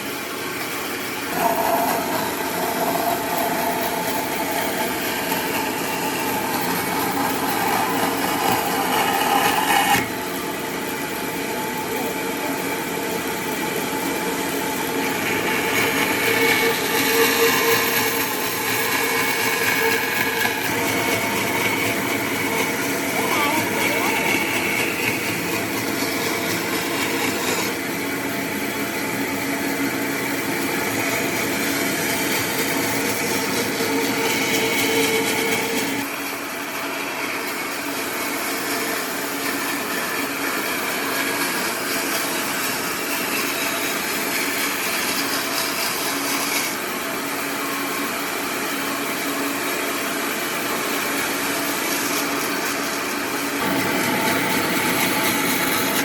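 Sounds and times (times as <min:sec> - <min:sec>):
power tools cutting wood: 0:00.5 - 0:56.0.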